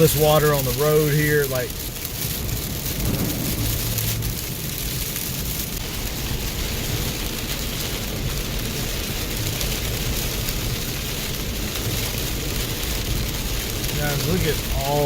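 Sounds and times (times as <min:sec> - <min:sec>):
heavy rain on a car: 0:00.0 - 0:15.0
road and engine rumble: 0:00.0 - 0:15.0.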